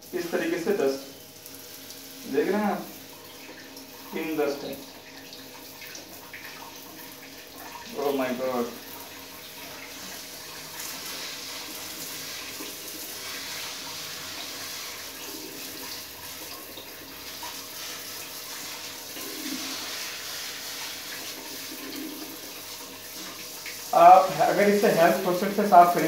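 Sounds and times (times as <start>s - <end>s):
water spraying into sink: 0.0s - 26.0s.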